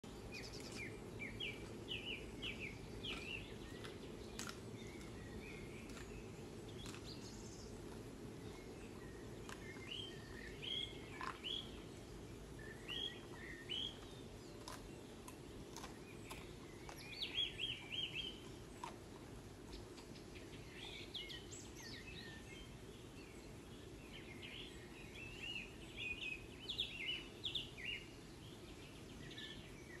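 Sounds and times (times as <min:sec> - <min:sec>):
low background rumble: 0:00.0 - 0:30.0
songbirds chirping: 0:00.0 - 0:30.0.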